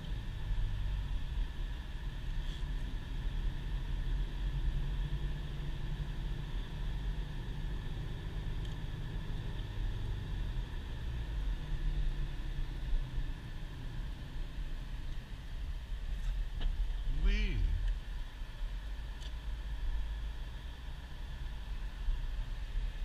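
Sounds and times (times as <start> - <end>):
engine and tyre rumble: 0.0 - 23.0.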